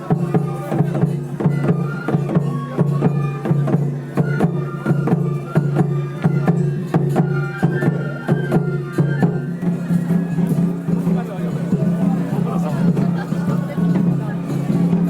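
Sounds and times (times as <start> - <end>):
flute melody: 0.0 - 14.3
drums beating quick rhythm: 0.0 - 15.0.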